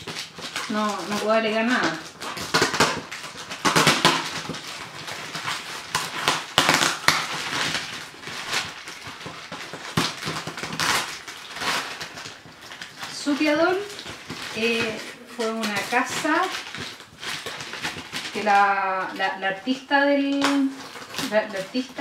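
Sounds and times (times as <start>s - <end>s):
paper rustling and crinkling: 0.0s - 22.0s.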